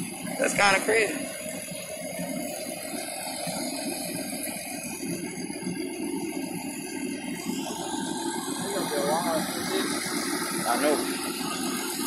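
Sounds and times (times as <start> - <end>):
fire engine running: 0.0 - 12.0.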